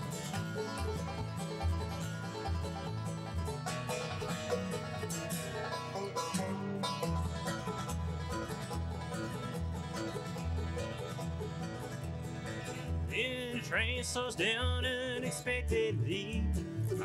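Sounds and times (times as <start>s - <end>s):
acoustic guitar: 0.0s - 17.0s
banjo picking: 0.0s - 17.0s
fiddle: 0.0s - 17.0s
upright bass: 0.0s - 17.0s.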